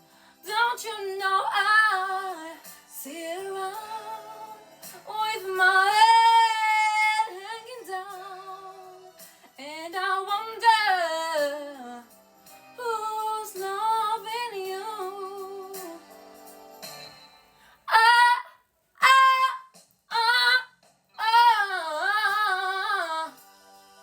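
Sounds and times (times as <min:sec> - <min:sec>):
woman singing a slow ballad: 0:00.4 - 0:12.2, 0:12.8 - 0:16.2, 0:17.9 - 0:23.4.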